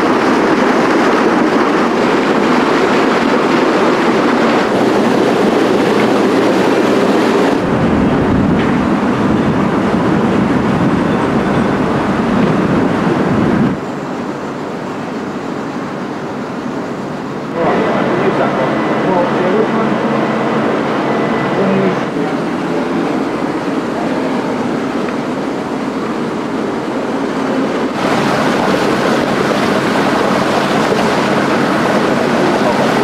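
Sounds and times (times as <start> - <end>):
steady ship rumble: 0.0 - 33.0.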